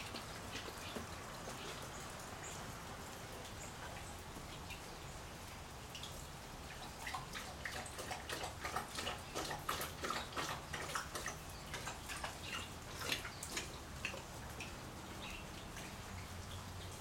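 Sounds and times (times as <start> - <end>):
dog lapping water from a bowl: 0.0 - 2.7, 6.0 - 17.0.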